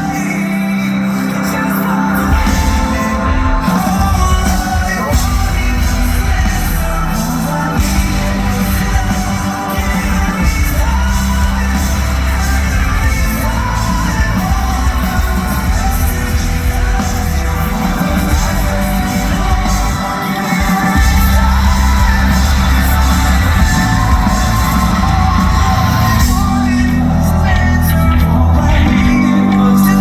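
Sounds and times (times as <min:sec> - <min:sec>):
person singing: 0:00.0 - 0:30.0
rock band playing live: 0:00.0 - 0:30.0.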